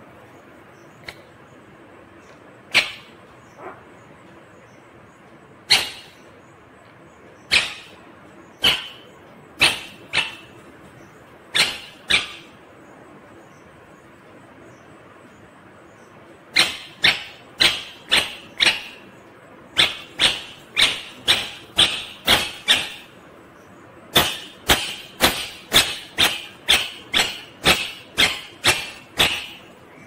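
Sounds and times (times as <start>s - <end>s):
parakeet calling: 2.2s - 13.9s, 15.9s - 30.0s.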